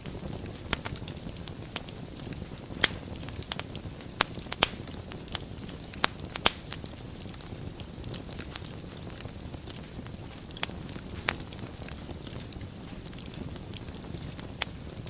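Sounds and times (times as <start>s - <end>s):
fire crackling and popping: 0.0s - 15.0s
fire hissing: 0.0s - 15.0s.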